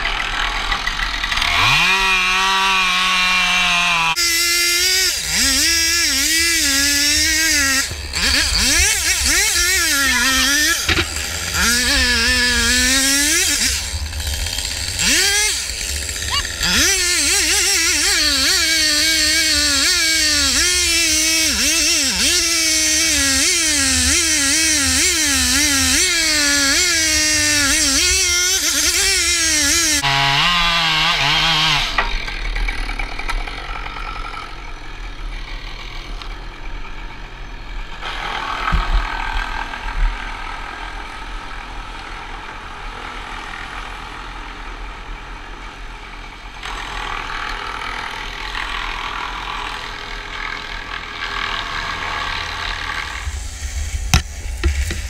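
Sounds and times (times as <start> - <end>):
chainsaw cutting wood: 0.0 - 55.0
engine running steadily: 4.4 - 30.1, 31.9 - 55.0.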